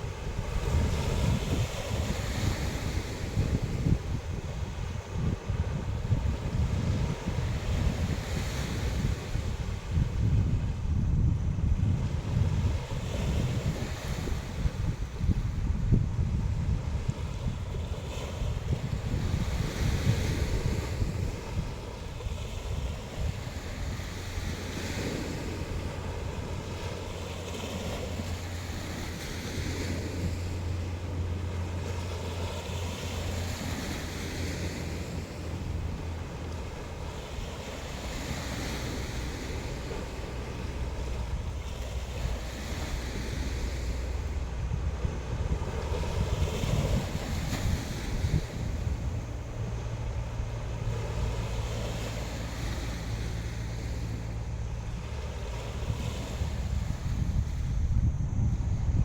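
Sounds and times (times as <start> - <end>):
sea waves breaking on shore: 0.0 - 59.0
wind buffeting microphone: 0.0 - 59.0.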